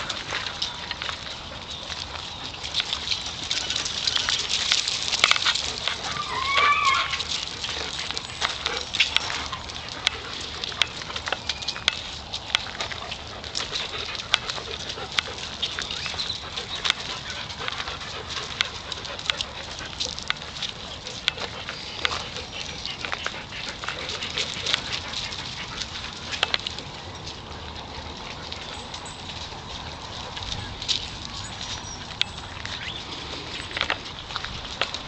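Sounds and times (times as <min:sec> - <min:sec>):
dogs barking and yapping: 0:00.0 - 0:35.0.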